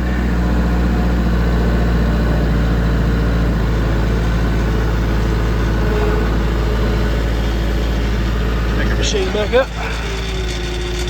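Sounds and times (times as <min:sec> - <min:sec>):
tractor engine drone: 0:00.0 - 0:11.0.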